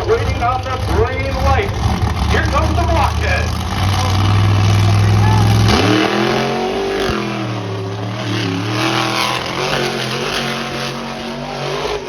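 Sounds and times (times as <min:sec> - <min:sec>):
monster truck engine accelerating: 0:00.0 - 0:12.0.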